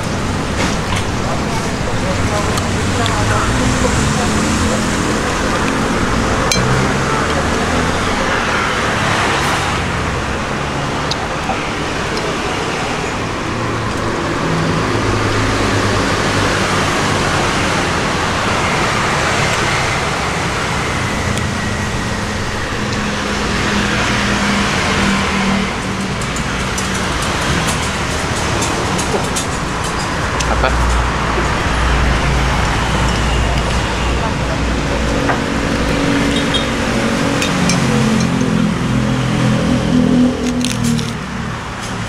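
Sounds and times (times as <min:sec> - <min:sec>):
constant traffic rush: 0:00.0 - 0:42.0
vehicles passing: 0:00.0 - 0:42.0.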